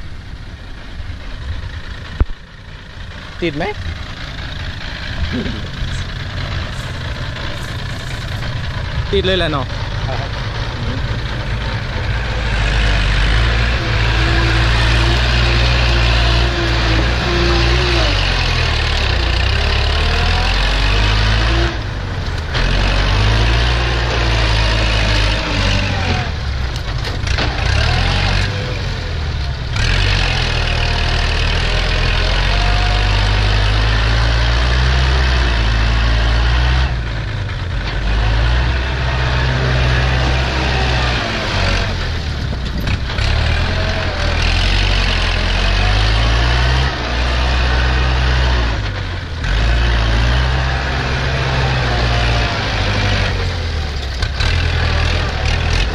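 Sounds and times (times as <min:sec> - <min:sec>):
tractor diesel engine under load: 0:00.0 - 0:55.9
truck engine running: 0:00.0 - 0:55.9.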